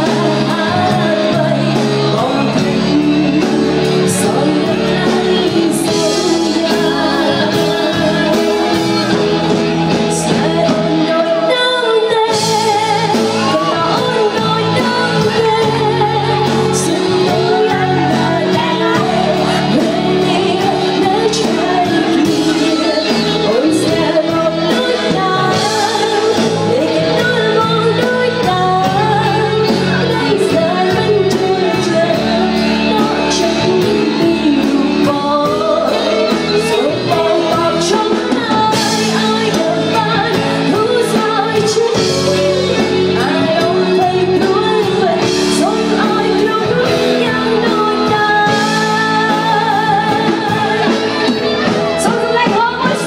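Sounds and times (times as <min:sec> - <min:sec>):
live band playing pop: 0:00.0 - 0:53.0
woman singing: 0:00.0 - 0:53.0.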